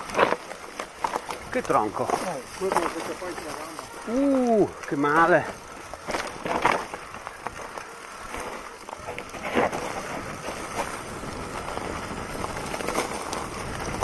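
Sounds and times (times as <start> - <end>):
bike knocking on rocks: 0.0 - 14.0
bike rattling: 0.0 - 14.0
bike tyres crunching over dirt: 0.0 - 14.0.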